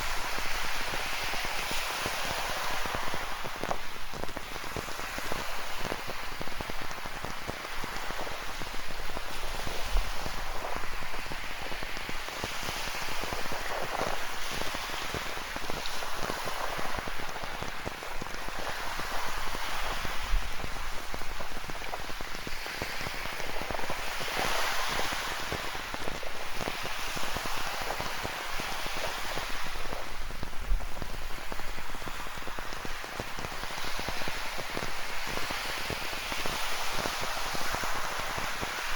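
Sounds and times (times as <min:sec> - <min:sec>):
waves breaking on rocky shore: 0:00.0 - 0:38.9.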